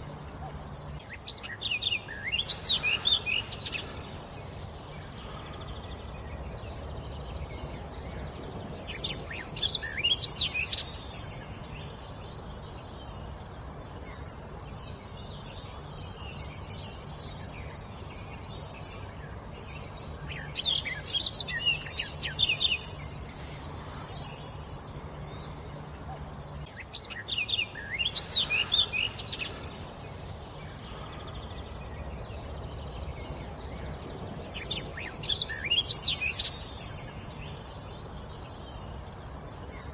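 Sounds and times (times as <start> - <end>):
low background noise: 0.0 - 39.9
songbird singing: 0.0 - 39.9.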